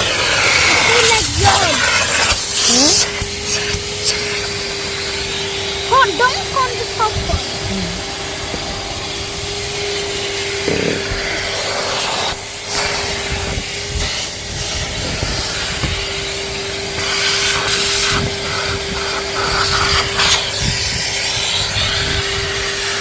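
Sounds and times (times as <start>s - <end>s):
vacuum cleaner humming: 0.0s - 23.0s
vacuum nozzle scraping surfaces: 0.0s - 23.0s.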